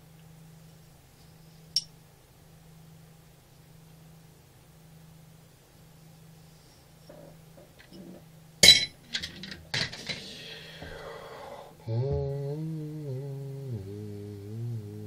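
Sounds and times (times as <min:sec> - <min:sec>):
low humming tone with overtones: 0:00.0 - 0:15.0.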